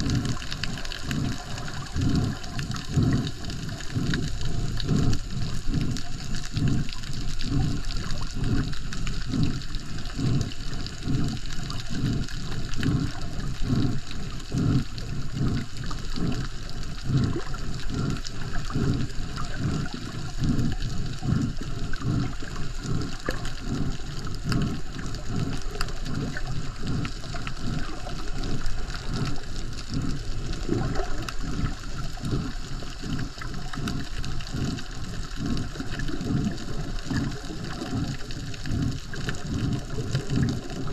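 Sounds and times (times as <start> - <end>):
muffled underwater noise: 0.0 - 40.9.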